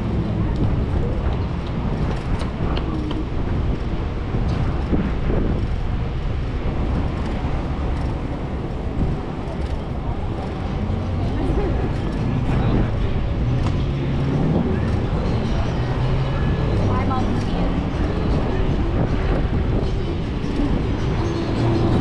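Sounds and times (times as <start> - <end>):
road traffic noise: 0.0 - 22.0
wind on microphone: 0.0 - 22.0.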